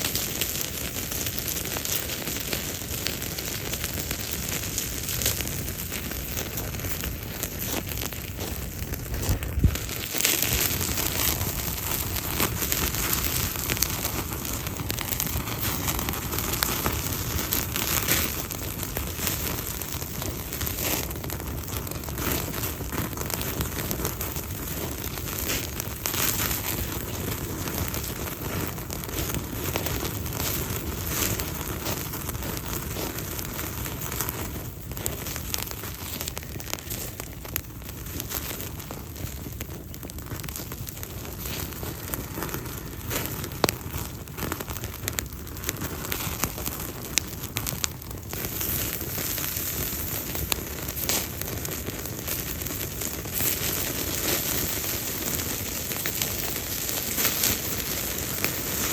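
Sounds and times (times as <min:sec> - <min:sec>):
campfire crackling: 0:00.0 - 0:58.9
small pops of fire: 0:00.0 - 0:58.9.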